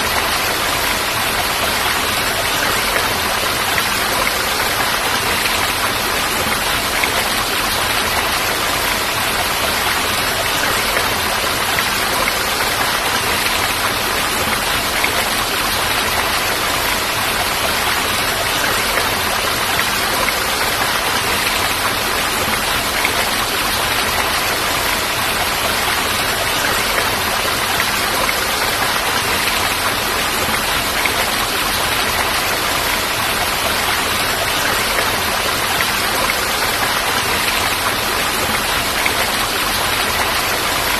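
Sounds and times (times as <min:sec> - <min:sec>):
rushing falling water: 0:00.0 - 0:40.9.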